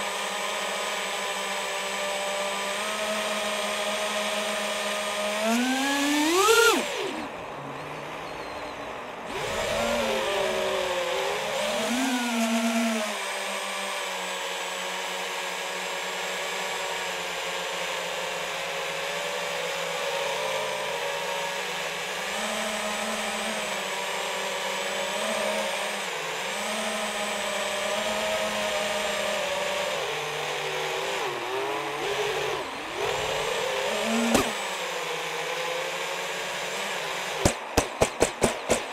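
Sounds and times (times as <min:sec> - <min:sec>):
quadcopter motors whining: 0:00.0 - 0:38.9.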